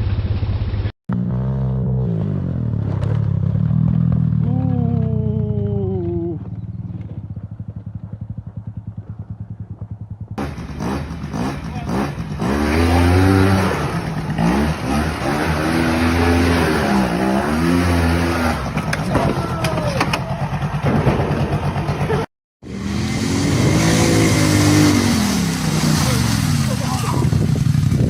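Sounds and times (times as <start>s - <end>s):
off-road vehicle engine revving: 1.1s - 28.0s.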